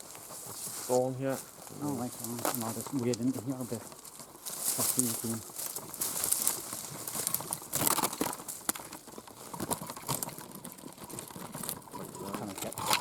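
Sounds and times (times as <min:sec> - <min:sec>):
rustling leaves: 0:00.0 - 0:13.0.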